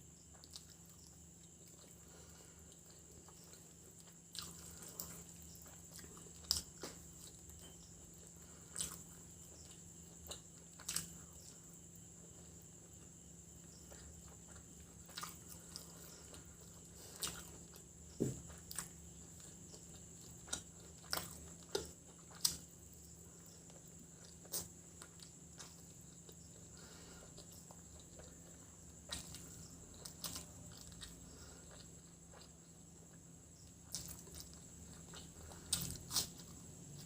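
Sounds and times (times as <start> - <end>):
faint steady hum: 0.0 - 37.0
person chewing food: 0.2 - 37.0.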